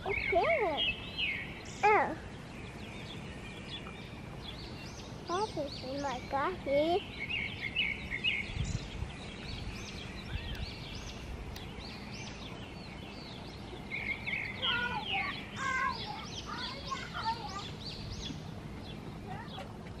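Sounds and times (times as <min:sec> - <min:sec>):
songbirds singing and chirping: 0:00.0 - 0:20.0.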